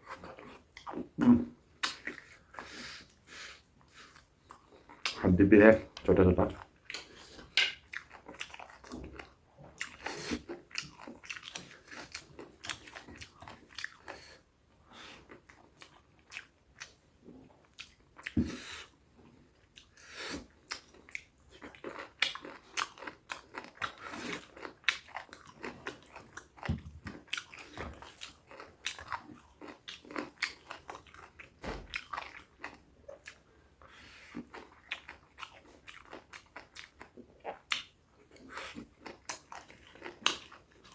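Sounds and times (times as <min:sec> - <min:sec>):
person chewing meat with bones: 0:06.5 - 0:14.5, 0:15.2 - 0:40.9.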